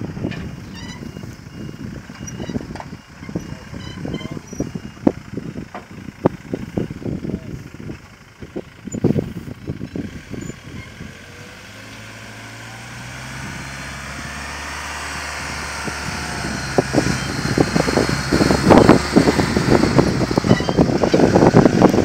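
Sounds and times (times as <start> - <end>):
diesel truck engine at low revs: 0.0 - 22.0.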